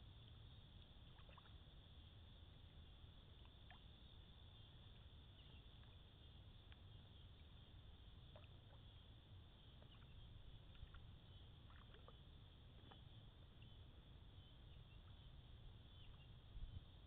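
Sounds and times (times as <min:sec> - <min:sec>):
faint chirps and ticks: 0:00.0 - 0:17.0
faint low rumble: 0:00.0 - 0:17.0.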